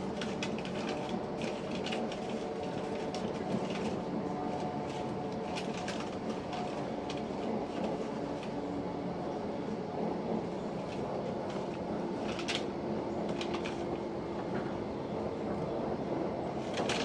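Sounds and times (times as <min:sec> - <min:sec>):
train running noise with low hum: 0:00.0 - 0:17.0.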